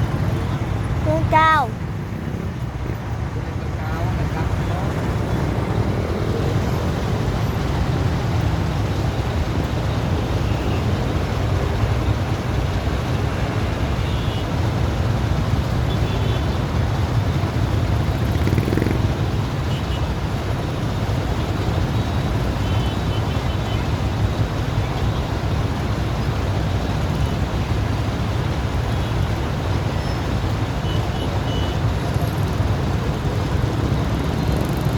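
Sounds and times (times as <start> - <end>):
traffic rumble: 0.0 - 34.9.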